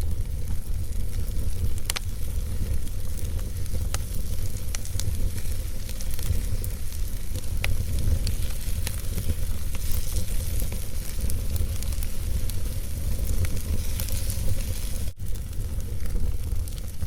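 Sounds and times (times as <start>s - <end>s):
low rumble of flames: 0.0s - 17.0s
wood fire snaps and pops: 0.0s - 17.0s.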